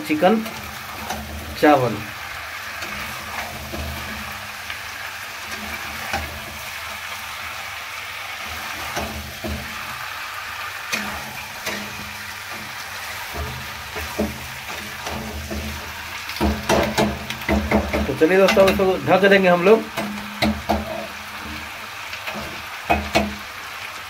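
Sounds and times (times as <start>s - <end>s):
chicken and onions sizzling: 0.0s - 24.0s
metal spatula scraping pan: 0.2s - 4.5s, 5.4s - 6.7s, 8.4s - 10.0s, 10.9s - 23.4s.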